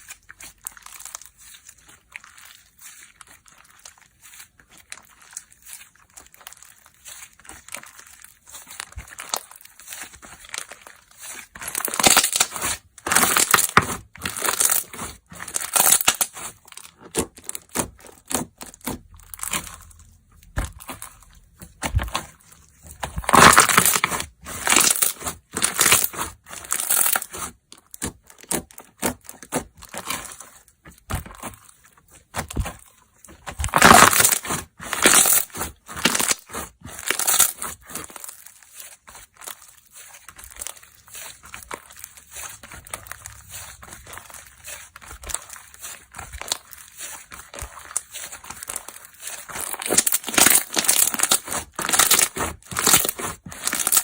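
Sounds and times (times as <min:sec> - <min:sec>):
slime squishing and popping: 0:00.0 - 0:54.0.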